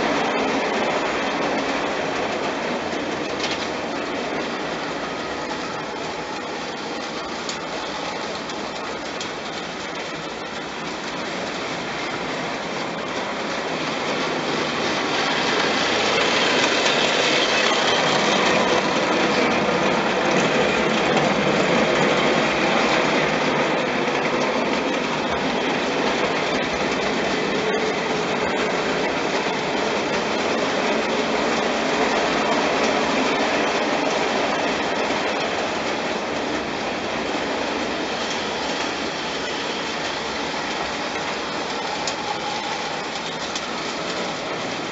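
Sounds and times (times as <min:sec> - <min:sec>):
model train wheels clattering on rails: 0:00.0 - 0:04.9, 0:06.1 - 0:44.9.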